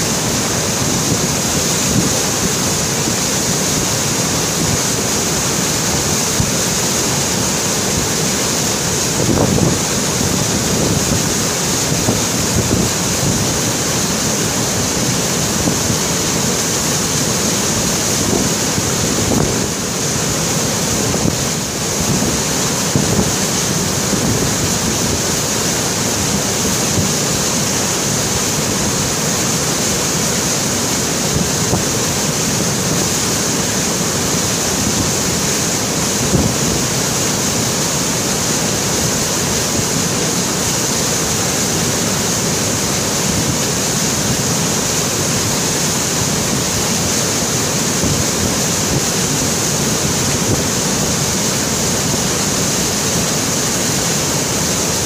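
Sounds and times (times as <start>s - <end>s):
meltwater rushing: 0.0s - 55.0s.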